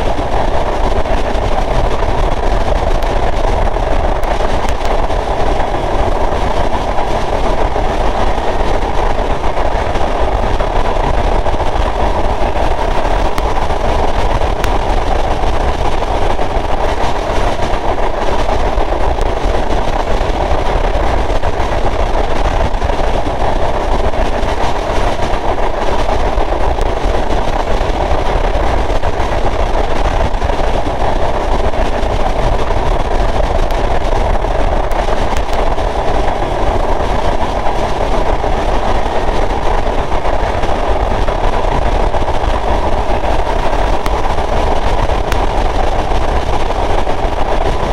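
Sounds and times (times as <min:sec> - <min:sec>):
train rumbling along: 0:00.0 - 0:47.9.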